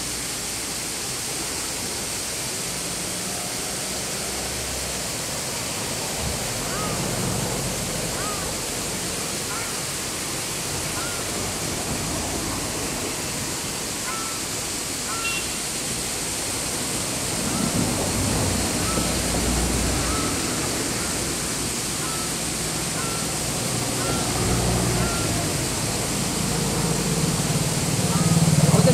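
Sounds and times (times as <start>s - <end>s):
outdoor hiss: 0.0s - 28.9s
waterbirds calling: 5.0s - 28.9s.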